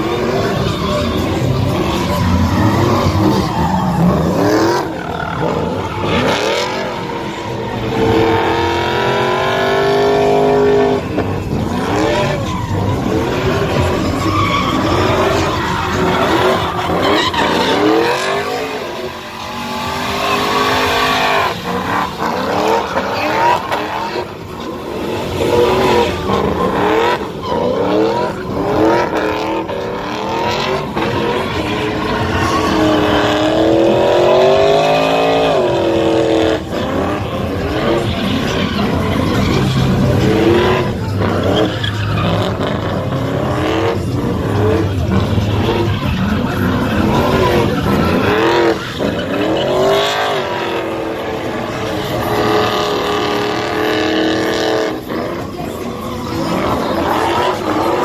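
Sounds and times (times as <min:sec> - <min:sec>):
engine revving hard: 0:00.0 - 0:58.0
tires squealing: 0:00.0 - 0:58.0.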